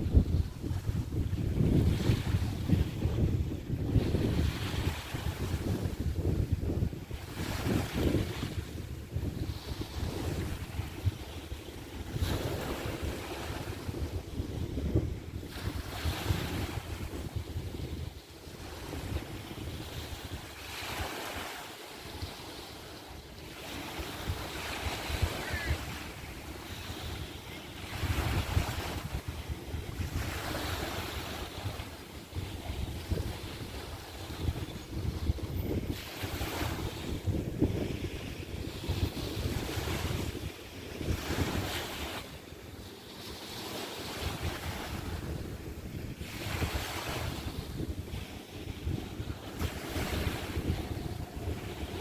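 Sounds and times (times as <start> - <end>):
small waves washing onto beach: 0.0 - 52.0
wind buffeting microphone: 0.0 - 52.0.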